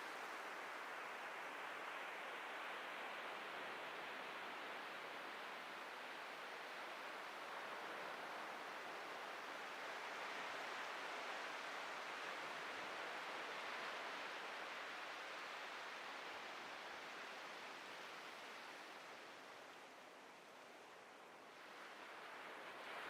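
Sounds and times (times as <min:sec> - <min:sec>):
waves breaking on beach: 0:00.0 - 0:23.0.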